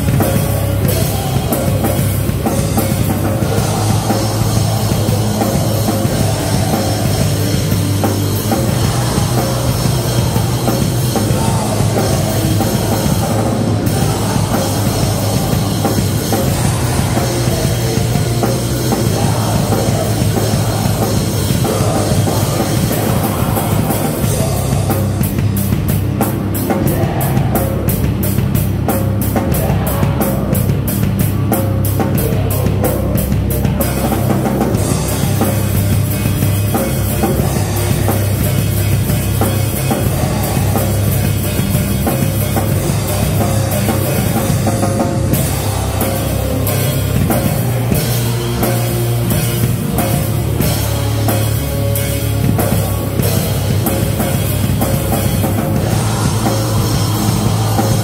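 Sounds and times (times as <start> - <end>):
live heavy rock band: 0.0 - 58.0.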